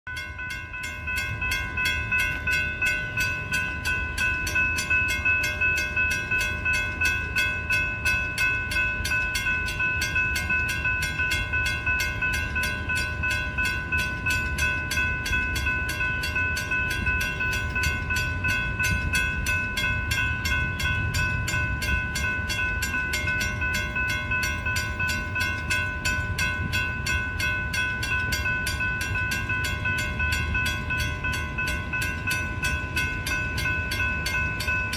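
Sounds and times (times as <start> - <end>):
railroad crossing bell ringing: 0.1 - 34.9.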